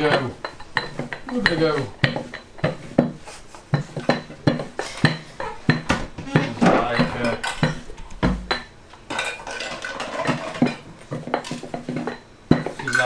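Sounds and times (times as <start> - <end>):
rolling pin knocking on worktop: 0.0 - 8.7, 10.1 - 13.0.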